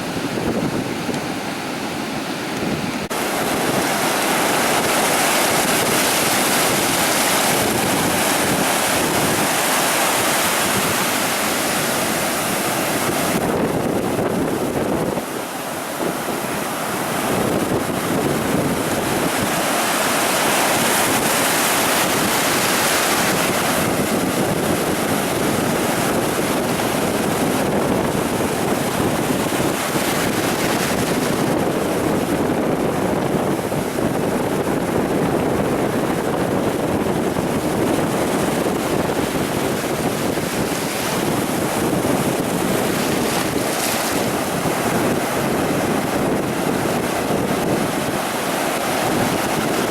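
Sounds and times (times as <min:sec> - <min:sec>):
ocean surf washing onto beach: 0:00.0 - 0:49.9.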